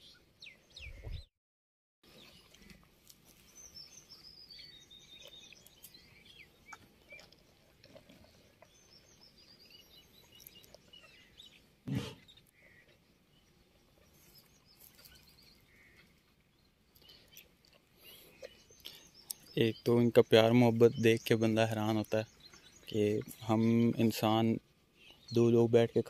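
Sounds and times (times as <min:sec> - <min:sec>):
faint birds chirping: 0:00.0 - 0:01.3, 0:02.0 - 0:26.0.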